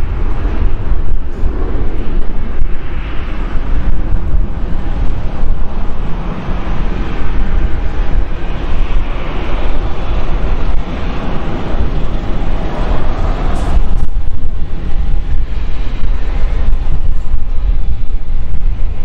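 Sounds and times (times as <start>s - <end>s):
jet engines roaring on takeoff: 0.0s - 19.0s
wind buffeting microphone: 0.0s - 19.0s.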